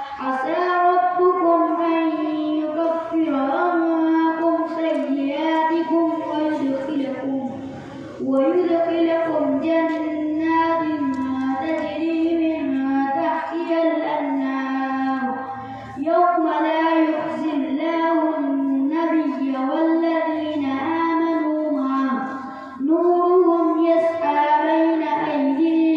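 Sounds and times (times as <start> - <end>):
boy chanting recitation: 0.0 - 25.9.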